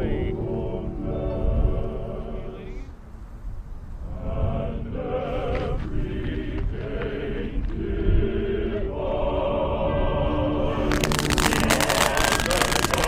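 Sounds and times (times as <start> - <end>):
choral chanting: 0.0 - 2.6, 4.0 - 13.0.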